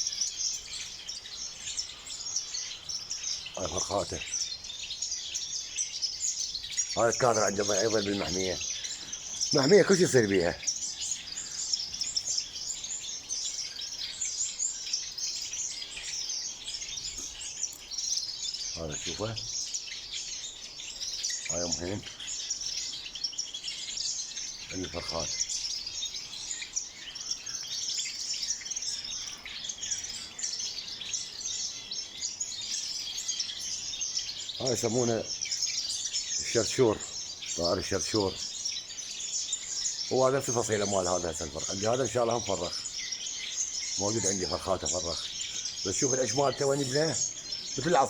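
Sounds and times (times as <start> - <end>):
finches chirping and twittering: 0.0 - 48.0.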